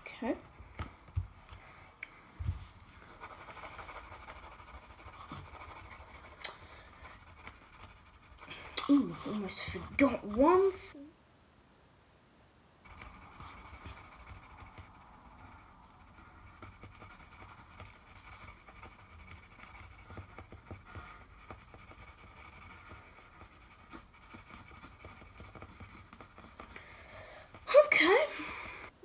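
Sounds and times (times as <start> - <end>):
pencil scratching on paper: 3.0 - 11.0, 12.8 - 28.9.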